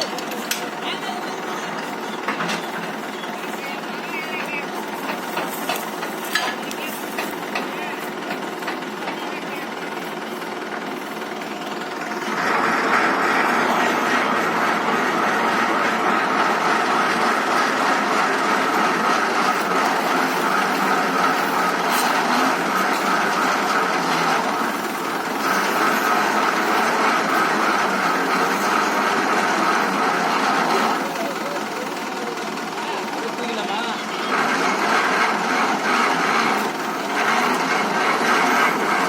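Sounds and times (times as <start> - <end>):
tractor engine running a pump: 0.0 - 39.0.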